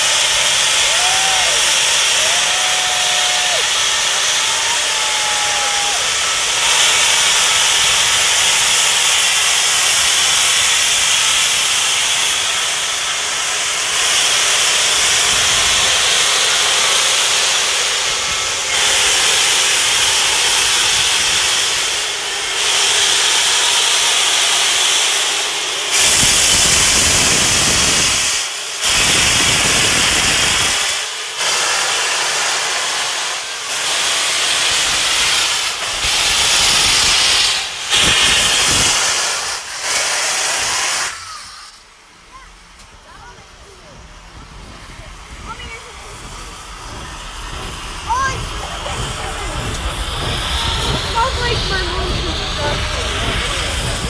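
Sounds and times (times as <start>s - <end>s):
steam locomotive venting steam: 0.0s - 54.0s.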